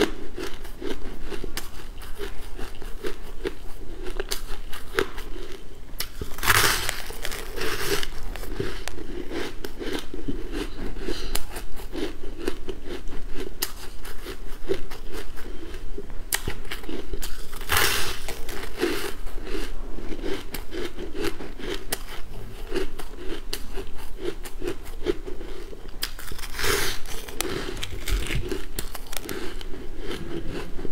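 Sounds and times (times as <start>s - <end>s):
chewing and crunching ice: 0.0s - 30.9s.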